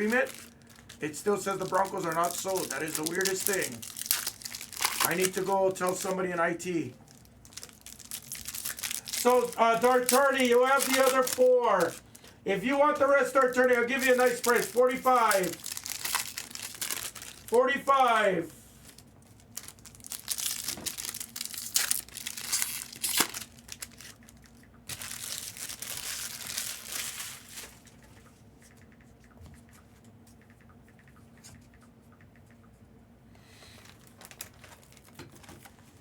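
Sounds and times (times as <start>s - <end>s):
plastic packaging crinkling and tearing: 0.0s - 17.8s, 18.8s - 28.0s, 33.7s - 36.0s.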